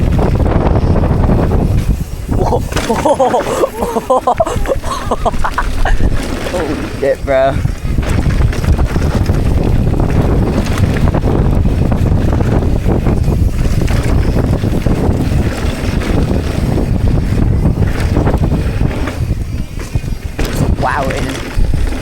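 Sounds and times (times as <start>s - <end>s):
bike knocking over rough ground: 0.0s - 22.0s
wind buffeting microphone: 0.0s - 22.0s.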